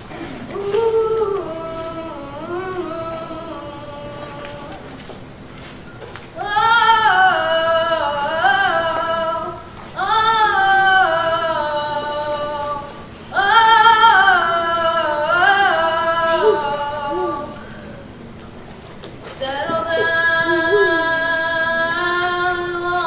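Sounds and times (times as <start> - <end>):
young children singing: 0.0 - 5.1, 6.4 - 18.1, 19.2 - 23.0.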